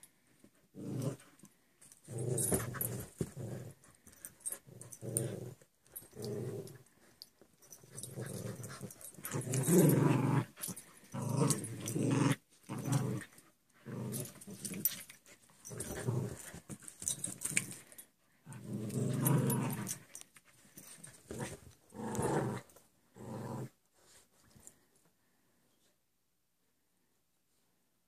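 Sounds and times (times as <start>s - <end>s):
dogs growling in play fight: 0.6s - 20.2s, 20.8s - 23.8s.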